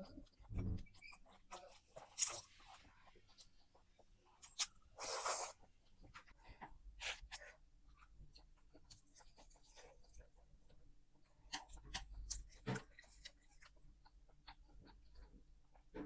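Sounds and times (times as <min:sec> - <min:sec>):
person chewing noodles: 0:00.0 - 0:16.0.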